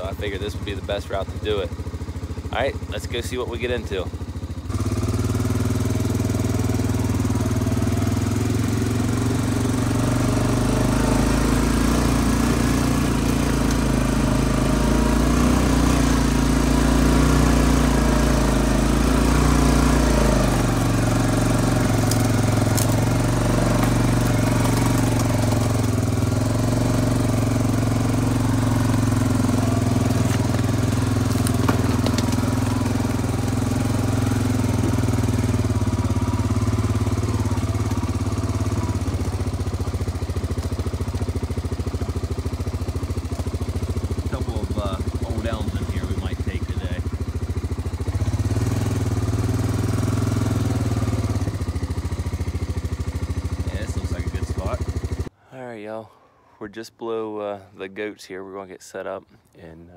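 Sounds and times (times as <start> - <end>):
quad bike engine running: 0.0 - 55.3.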